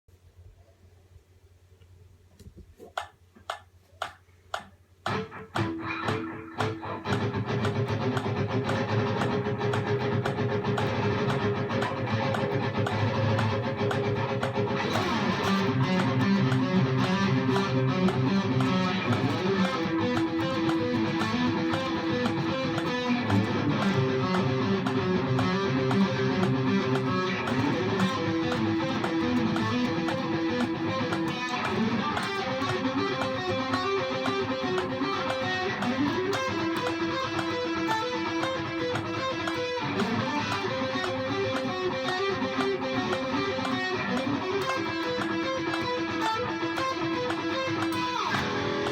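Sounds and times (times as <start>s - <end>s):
electric guitar through an amp: 5.1s - 48.9s.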